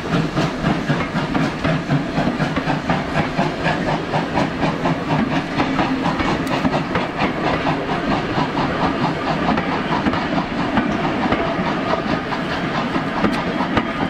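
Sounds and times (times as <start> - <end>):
train wheels clattering: 0.0 - 14.0.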